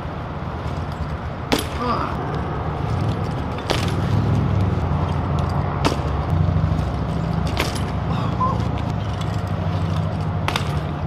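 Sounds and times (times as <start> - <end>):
bike rolling on asphalt: 0.0 - 11.0
steady low rumble: 0.0 - 11.0.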